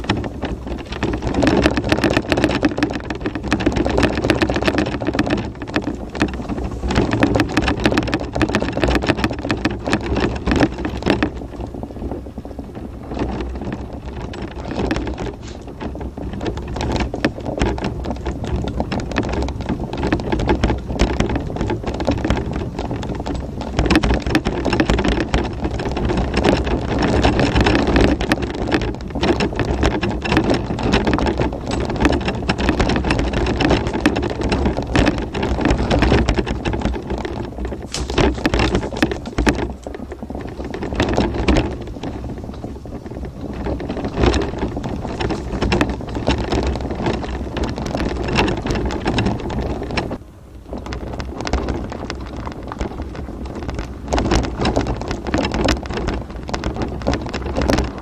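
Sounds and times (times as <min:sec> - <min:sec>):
scooter rattling: 0:00.0 - 0:58.0
tyres crunching on loose stones: 0:00.0 - 0:58.0.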